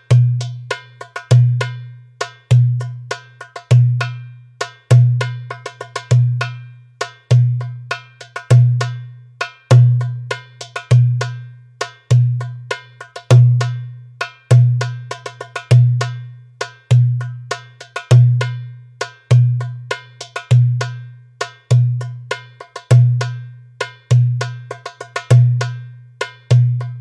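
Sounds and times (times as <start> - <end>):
goblet drum rhythm: 0.0 - 27.0.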